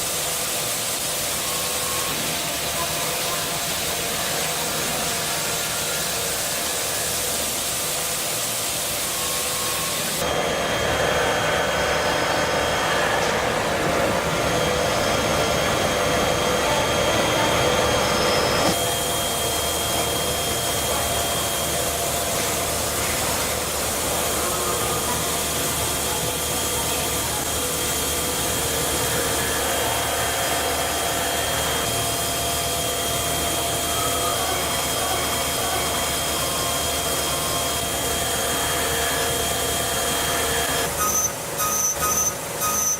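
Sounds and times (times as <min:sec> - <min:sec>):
cnc machine cutting metal: 0:00.0 - 0:42.9
high spindle whine: 0:01.0 - 0:42.9.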